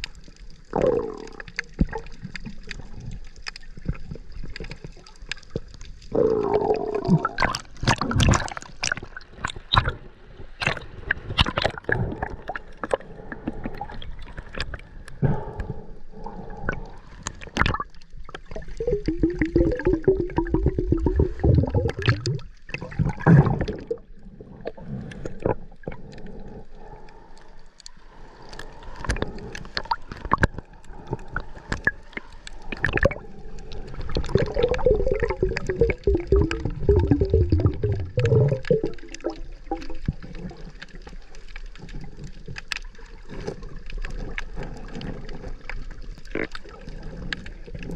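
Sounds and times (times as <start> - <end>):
rapid bubbling: 0.0 - 15.5, 16.5 - 27.2, 29.0 - 47.9
water gurgling and sloshing: 0.0 - 47.9.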